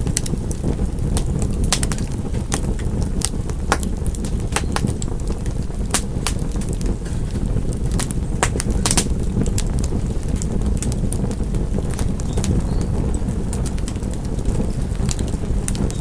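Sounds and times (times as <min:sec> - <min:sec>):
low rumble of flame: 0:00.0 - 0:16.0
wood fire crackling: 0:00.0 - 0:16.0.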